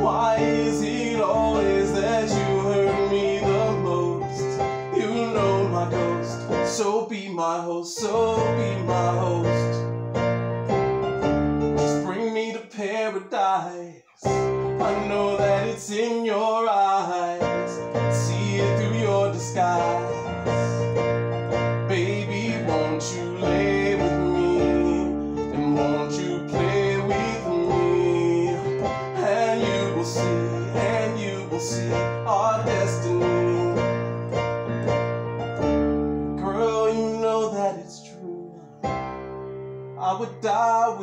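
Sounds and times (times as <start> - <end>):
piano playing: 0.0 - 7.2, 8.0 - 12.6, 14.2 - 41.0
man singing: 0.0 - 9.9, 11.8 - 21.0, 21.8 - 34.3, 36.4 - 38.8, 40.0 - 41.0.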